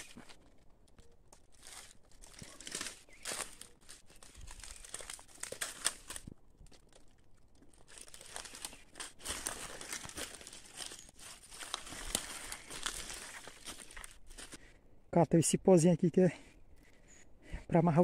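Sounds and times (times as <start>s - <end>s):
dry leaves and twigs rustling: 0.0s - 14.8s.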